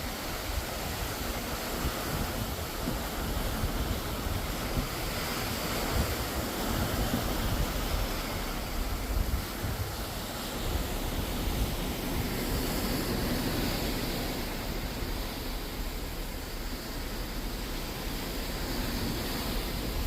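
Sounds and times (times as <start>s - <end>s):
sea rushing past ship: 0.0s - 20.0s
wind buffeting microphone: 0.0s - 20.0s.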